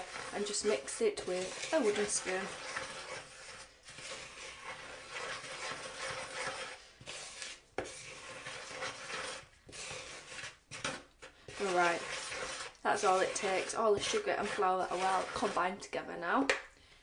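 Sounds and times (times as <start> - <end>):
spoon stirring dry flour: 0.0 - 16.1.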